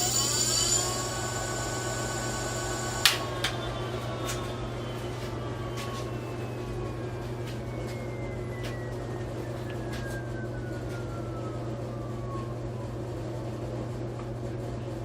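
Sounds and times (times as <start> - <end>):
electric bike motor whine: 0.0 - 12.4
steady low hum: 0.0 - 15.0.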